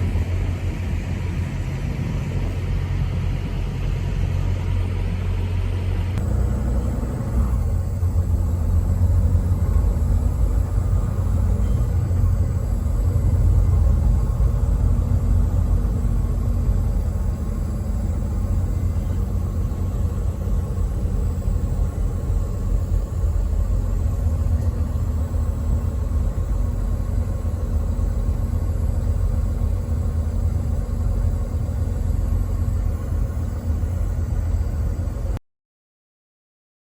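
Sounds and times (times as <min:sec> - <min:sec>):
truck engine and road noise: 0:00.0 - 0:35.4.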